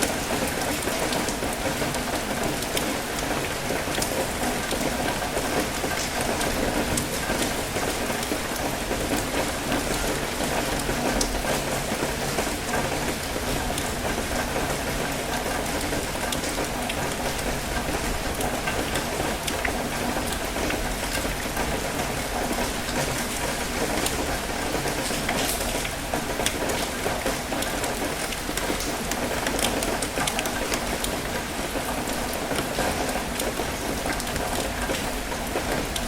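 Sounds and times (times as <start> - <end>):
light rain falling: 0.0 - 36.0
raindrops ticking: 0.0 - 36.0.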